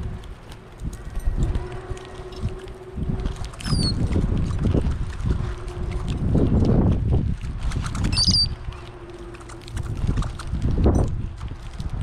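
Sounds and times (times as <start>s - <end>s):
birds pecking and scratching seed: 0.0s - 6.9s, 7.5s - 12.0s.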